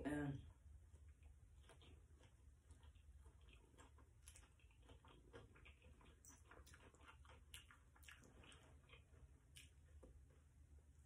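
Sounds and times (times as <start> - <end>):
low room hum: 0.0 - 11.0
faint chewing with mouth clicks: 0.4 - 11.0.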